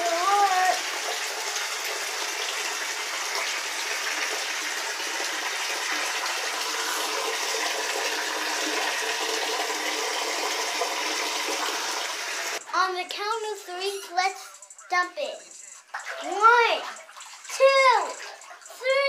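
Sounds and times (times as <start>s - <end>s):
water running into bathtub: 0.0s - 19.0s.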